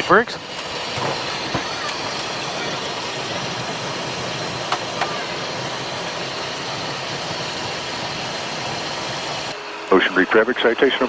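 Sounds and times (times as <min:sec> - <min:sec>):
jet engine and air rush: 0:00.0 - 0:11.0.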